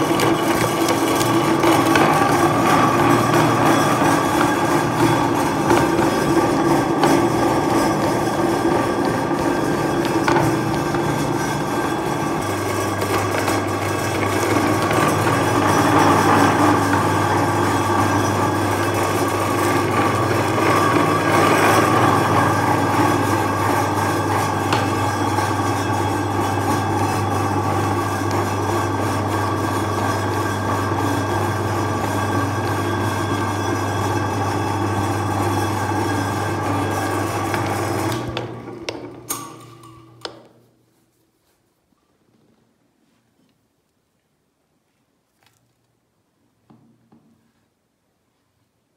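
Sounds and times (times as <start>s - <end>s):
electric meat grinder humming: 0.0s - 40.4s.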